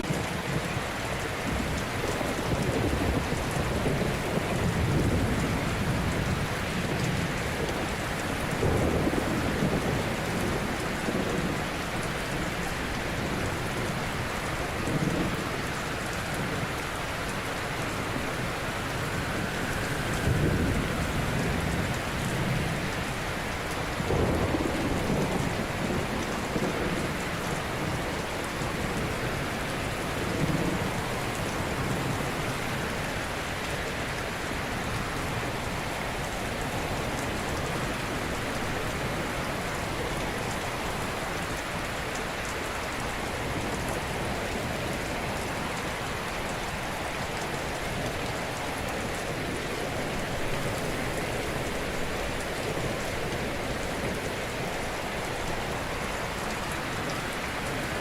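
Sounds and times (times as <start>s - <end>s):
waves breaking on a shore: 0.0s - 58.0s.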